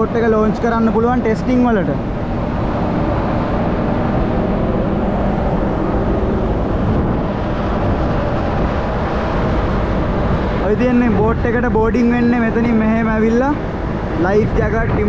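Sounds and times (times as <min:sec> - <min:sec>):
low machinery hum: 0:00.0 - 0:15.0
wind rushing over microphone: 0:00.0 - 0:15.0.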